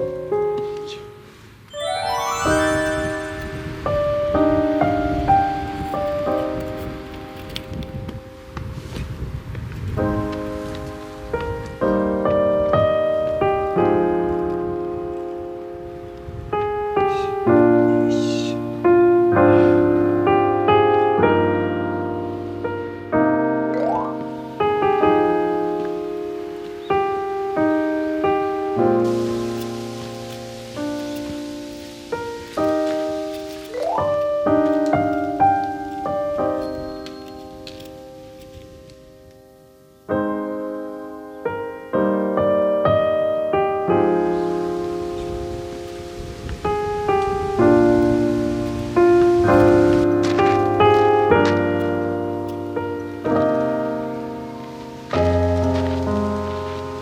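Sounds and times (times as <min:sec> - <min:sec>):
piano notes and chords: 0:00.0 - 0:57.0.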